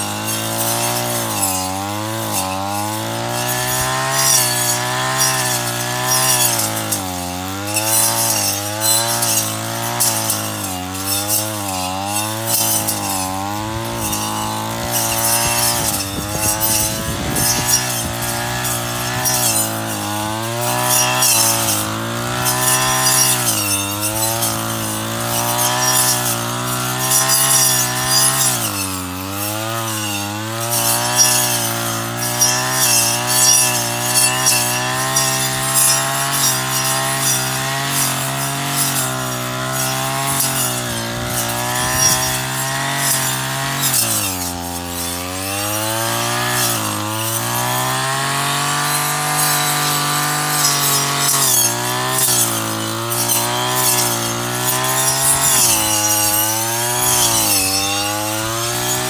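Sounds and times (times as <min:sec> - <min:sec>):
brush cutter engine running: 0:00.0 - 0:59.0
grass being cut: 0:00.0 - 0:59.0.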